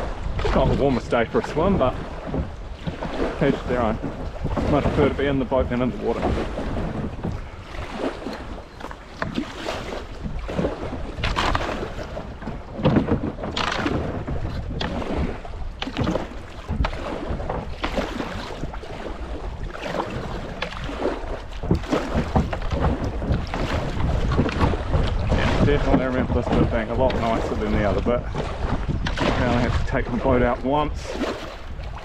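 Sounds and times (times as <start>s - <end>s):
kayak paddle splashing water: 0.0s - 32.0s
wind on microphone: 0.0s - 32.0s.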